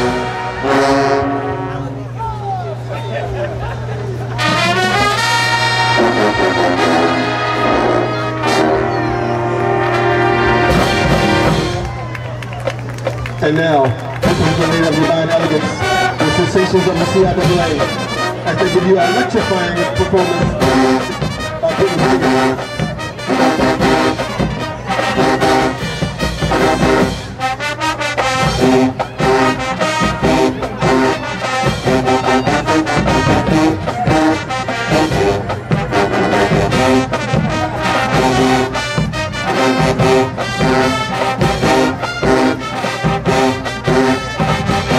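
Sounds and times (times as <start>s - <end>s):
marching band brass chords: 0.0s - 44.9s.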